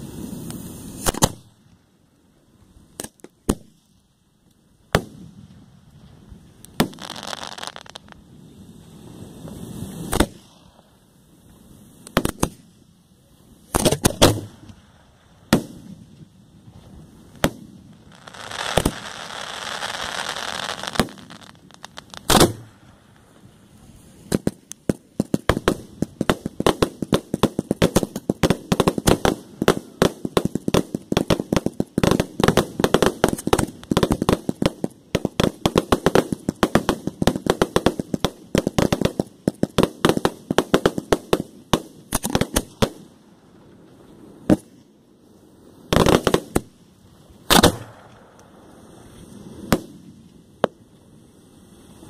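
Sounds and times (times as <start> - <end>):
fireworks exploding: 0.0 - 1.7, 2.9 - 4.1, 4.9 - 50.8.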